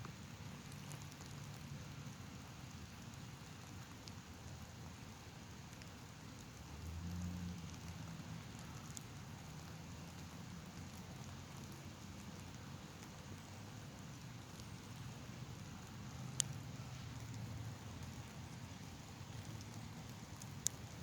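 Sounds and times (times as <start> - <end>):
light rain hiss: 0.0 - 21.0
raindrop ticks: 0.0 - 21.0.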